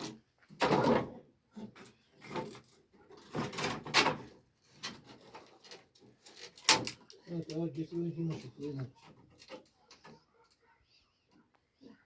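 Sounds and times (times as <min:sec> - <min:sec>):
scraping and rustling: 0:00.0 - 0:10.6.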